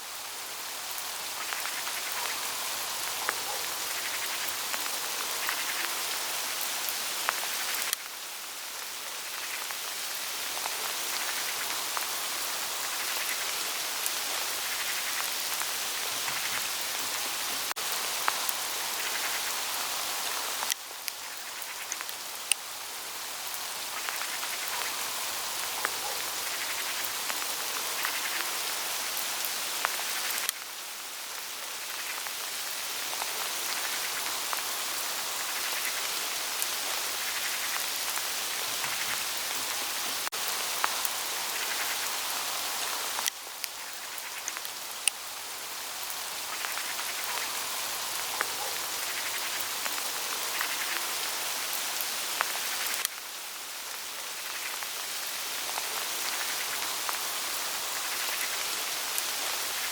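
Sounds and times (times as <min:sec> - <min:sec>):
hail pattering on leaves: 0:00.1 - 0:59.9.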